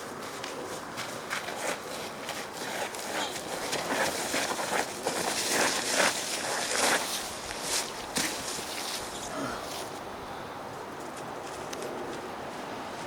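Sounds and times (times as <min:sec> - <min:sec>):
footsteps on rough ground: 0:00.0 - 0:10.1, 0:11.0 - 0:13.0.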